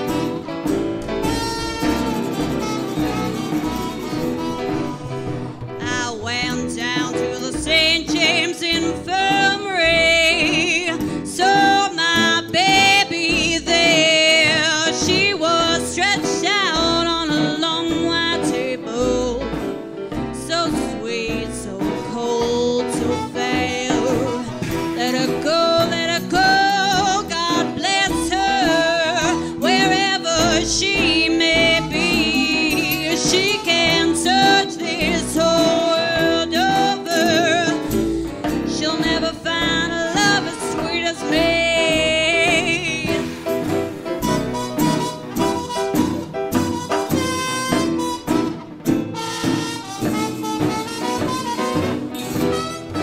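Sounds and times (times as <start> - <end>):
small dance band playing: 0.0 - 53.0
woman singing jazz song: 5.7 - 48.5, 49.2 - 53.0.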